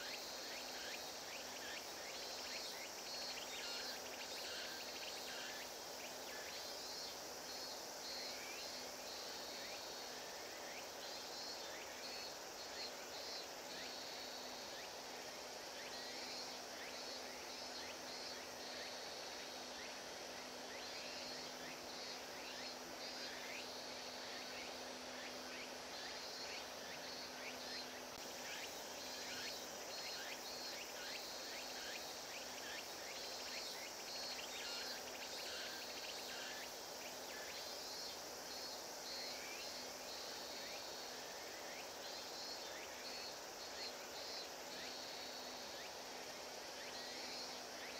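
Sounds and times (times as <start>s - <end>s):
insects calling in pulsing bursts: 0.0s - 47.9s
steady hiss: 0.0s - 47.9s.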